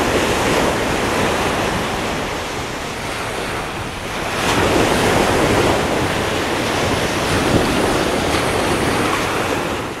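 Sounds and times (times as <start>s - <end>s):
small sea waves washing: 0.0s - 10.0s
wind on microphone: 0.0s - 10.0s.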